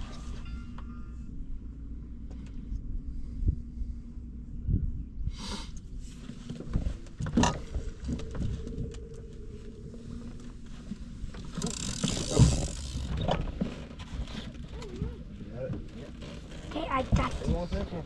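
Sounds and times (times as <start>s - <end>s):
steady low rumble: 0.0s - 16.1s.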